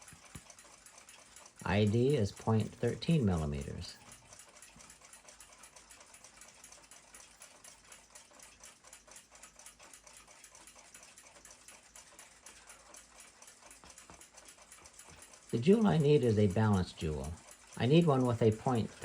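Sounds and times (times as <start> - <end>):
clock ticking: 0.0 - 19.0.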